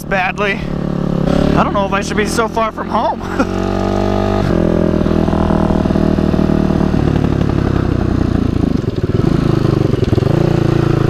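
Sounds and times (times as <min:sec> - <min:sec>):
dirt bike engine stuttering: 0:00.0 - 0:11.0.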